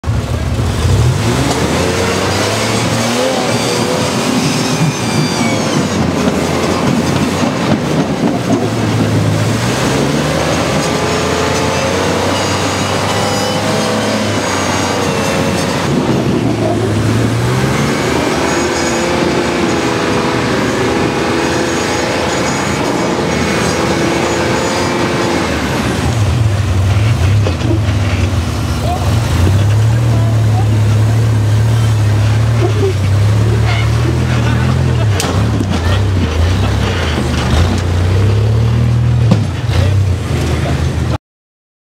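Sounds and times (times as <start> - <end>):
buggy engine revving: 0.0 - 41.2.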